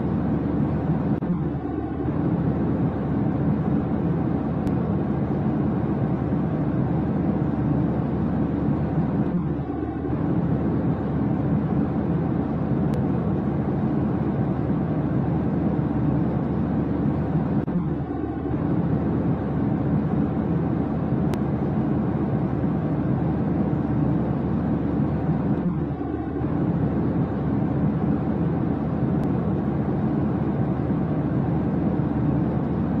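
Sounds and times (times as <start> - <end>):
low engine rumbling drone: 0.0 - 33.0.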